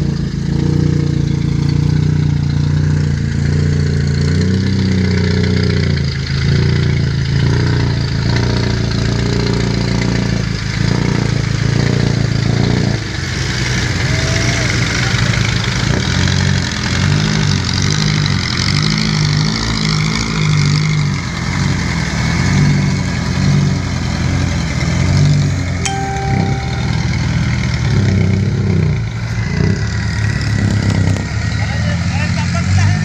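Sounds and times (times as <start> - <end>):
heavy diesel engines under load: 0.0 - 33.0.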